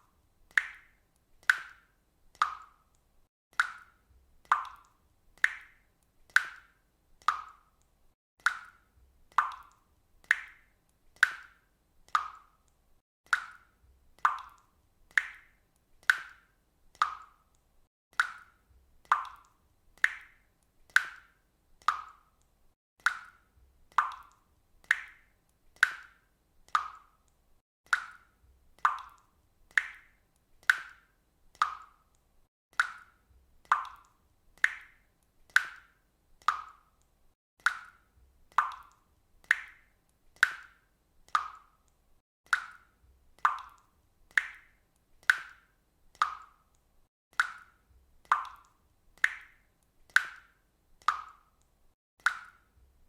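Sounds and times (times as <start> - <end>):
water dripping: 0.0 - 53.0.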